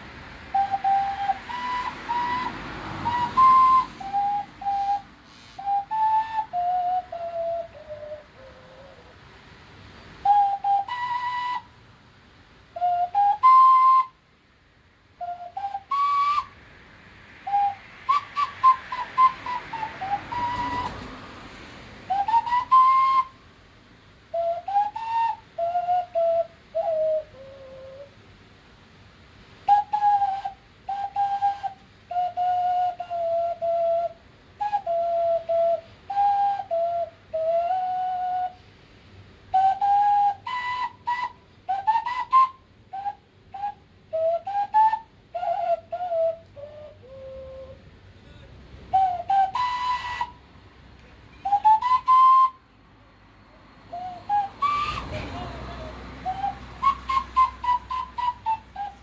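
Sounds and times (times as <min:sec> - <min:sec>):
rushing hiss: 0:00.0 - 0:59.0
man whistling: 0:00.5 - 0:09.1, 0:10.2 - 0:11.8, 0:12.7 - 0:14.2, 0:15.2 - 0:16.6, 0:17.4 - 0:21.2, 0:22.0 - 0:23.4, 0:24.3 - 0:28.1, 0:29.6 - 0:38.6, 0:39.5 - 0:47.9, 0:48.9 - 0:50.5, 0:51.3 - 0:52.8, 0:53.9 - 0:59.0.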